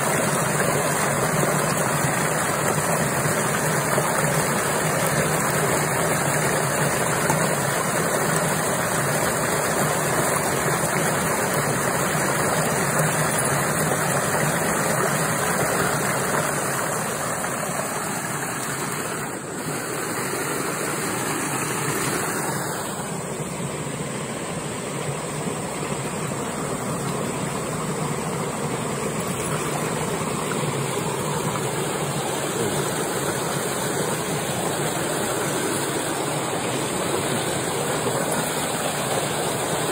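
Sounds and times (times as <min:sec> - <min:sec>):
water rushing down a channel: 0:00.0 - 0:39.9.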